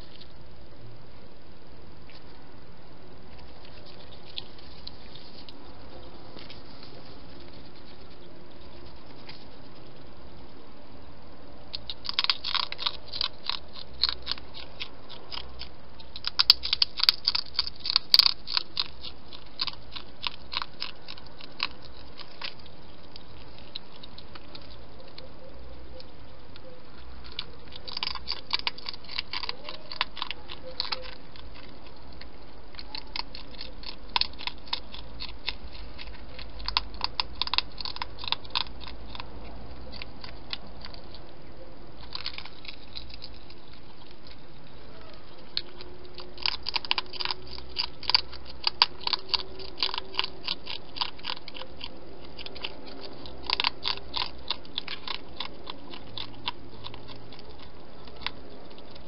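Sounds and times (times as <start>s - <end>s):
hedgehog crunching dry food: 0.0s - 0.5s, 1.9s - 59.0s.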